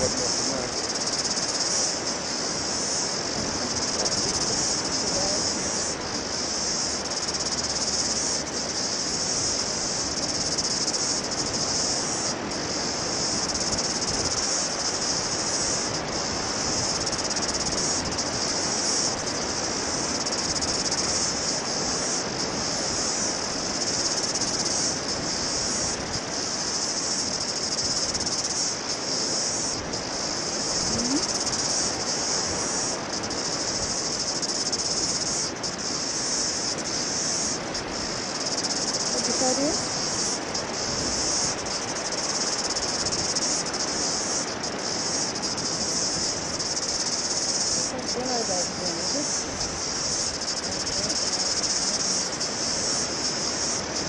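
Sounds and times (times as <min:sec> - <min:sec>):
high-pitched insect chorus: 0:00.0 - 0:54.0
wind on microphone: 0:00.0 - 0:54.0.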